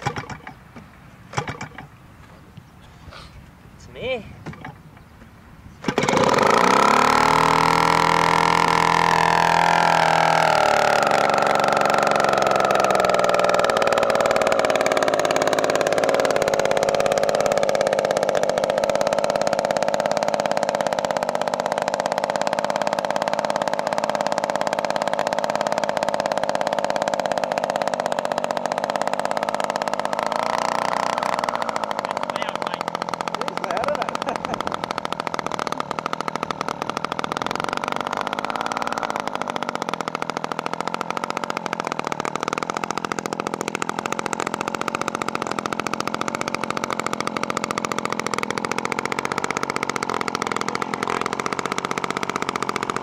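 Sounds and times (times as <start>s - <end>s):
model plane engine running: 0.0s - 2.0s, 5.7s - 53.0s.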